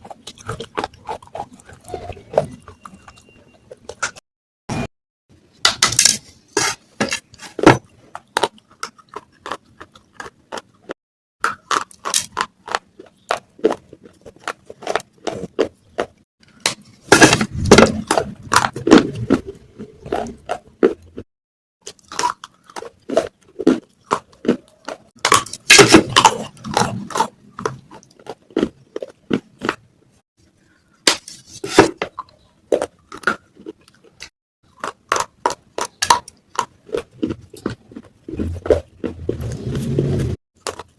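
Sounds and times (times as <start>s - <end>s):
clay pot pieces crunching: 5.7s - 21.2s, 21.8s - 29.9s, 31.0s - 40.9s.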